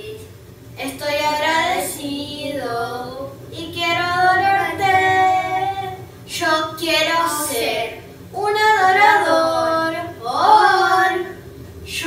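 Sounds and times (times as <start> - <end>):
boys singing: 0.8 - 12.0.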